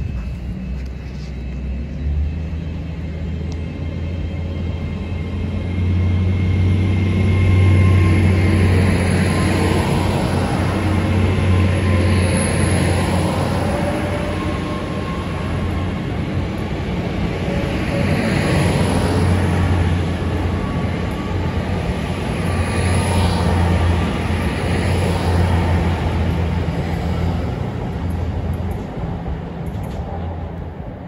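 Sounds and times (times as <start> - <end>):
diesel train engine drone: 0.0 - 31.0
train wheels rumbling on rail: 0.0 - 31.0.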